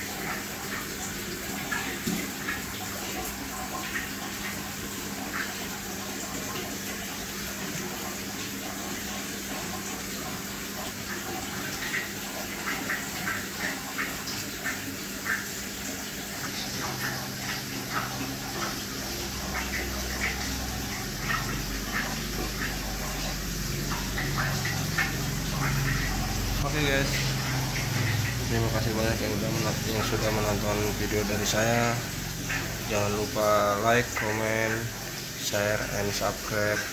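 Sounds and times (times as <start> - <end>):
aquarium water trickling and splashing: 0.0 - 36.9
faint pump hum: 0.0 - 36.9.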